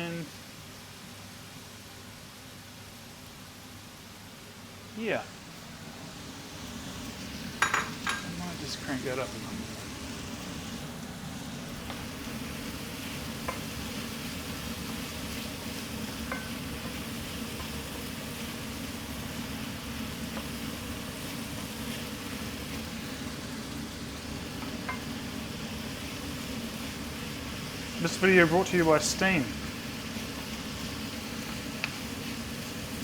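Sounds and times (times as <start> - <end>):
vegetables sizzling in frying pan: 0.0 - 33.0.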